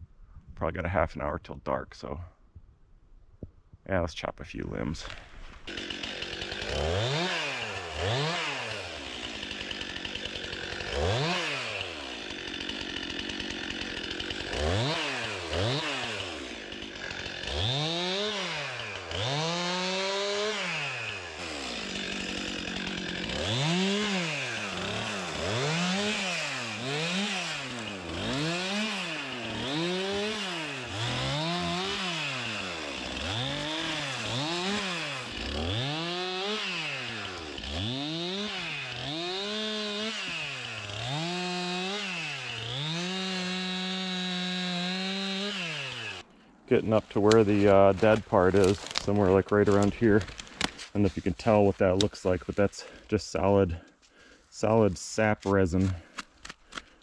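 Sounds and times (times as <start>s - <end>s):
chainsaw revving and idling: 5.1s - 57.0s.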